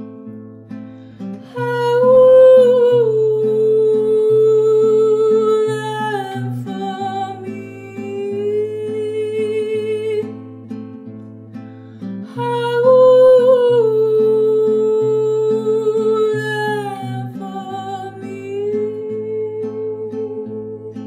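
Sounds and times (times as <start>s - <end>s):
fingerpicked classical guitar: 0.0s - 21.0s
woman singing long notes: 1.5s - 10.2s, 12.3s - 21.0s.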